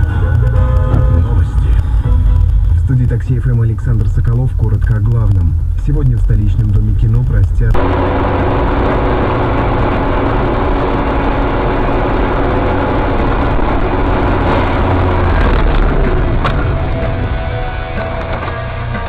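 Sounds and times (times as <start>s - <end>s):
faint steady hum: 0.0s - 18.8s
vehicle engine and road noise: 0.0s - 19.0s.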